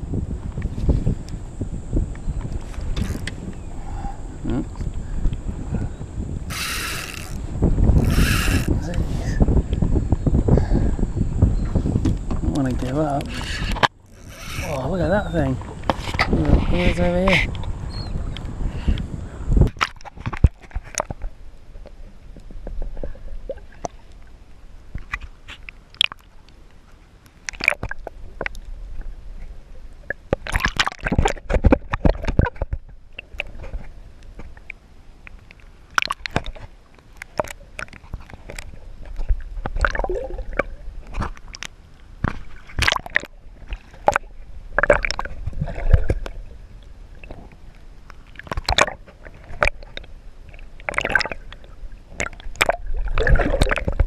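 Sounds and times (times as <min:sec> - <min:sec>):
water splashing against kayak: 0:00.2 - 0:10.5, 0:11.8 - 0:54.0.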